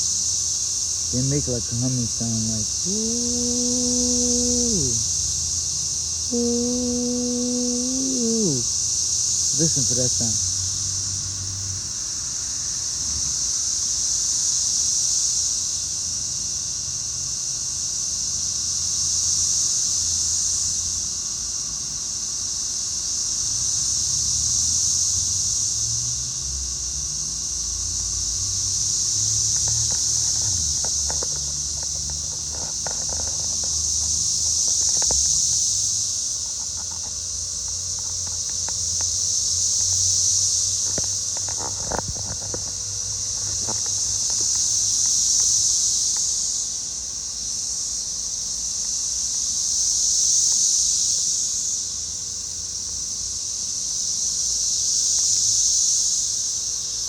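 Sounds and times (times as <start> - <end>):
cicadas buzzing: 0.0 - 57.0.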